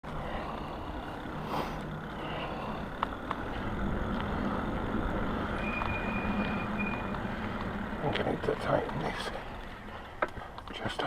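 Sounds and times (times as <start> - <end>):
tyres and wind rumble: 0.0 - 11.0.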